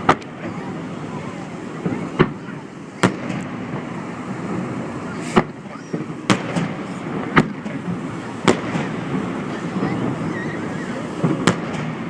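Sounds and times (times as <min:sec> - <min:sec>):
fireworks booming: 0:00.0 - 0:12.0
steady noisy background: 0:00.0 - 0:12.0.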